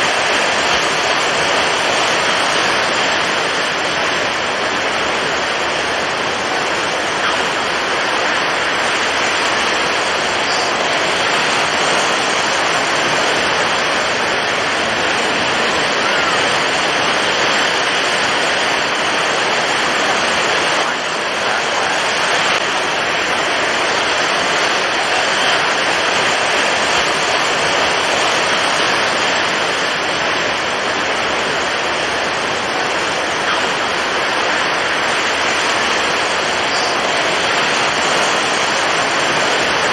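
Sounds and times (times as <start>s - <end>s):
heavy surf: 0.0s - 39.9s
strong wind rushing: 0.0s - 39.9s.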